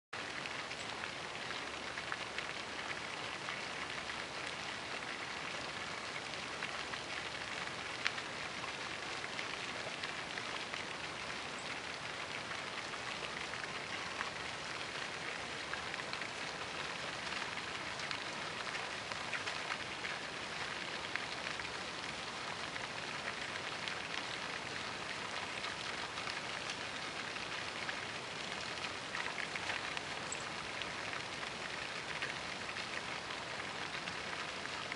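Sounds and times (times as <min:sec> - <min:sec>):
fountain water splashing: 0:00.2 - 0:34.9.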